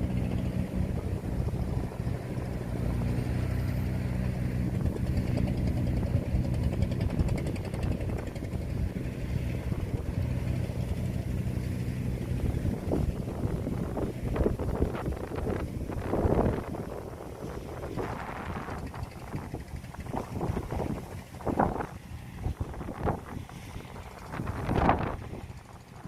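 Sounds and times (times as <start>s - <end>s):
combine harvester diesel engine: 0.0s - 26.0s
wind buffeting microphone: 0.0s - 26.0s.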